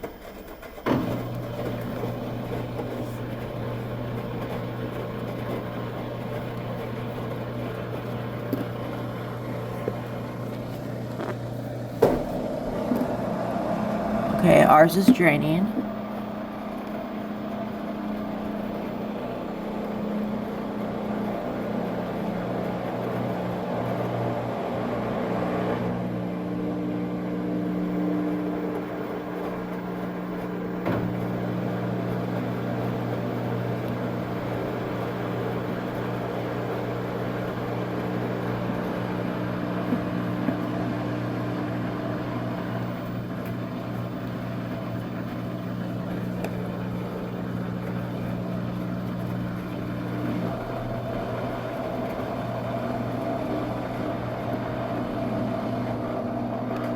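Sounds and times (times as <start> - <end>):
drain pump humming: 0.0 - 56.9.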